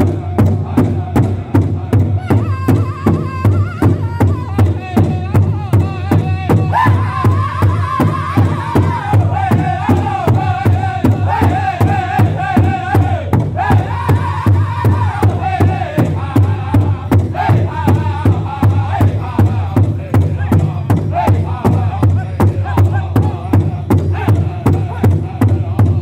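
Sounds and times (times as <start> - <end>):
chorus of high chanted voices: 0.0 - 26.0
drum sticks beating a large drum: 0.0 - 26.0.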